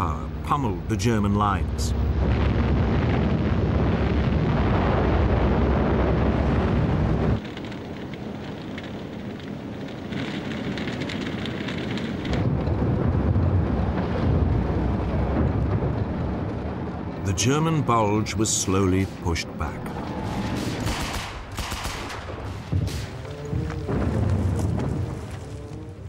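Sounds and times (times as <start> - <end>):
crackling: 0.0 - 26.0
distant explosions rumbling: 0.0 - 26.0
rumble of bombardment and aircraft: 0.0 - 26.0.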